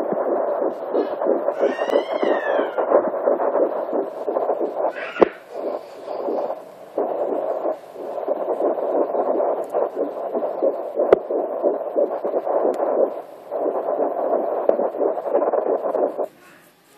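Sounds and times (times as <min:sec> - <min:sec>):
fetal heartbeat doppler whoosh: 0:00.0 - 0:16.3.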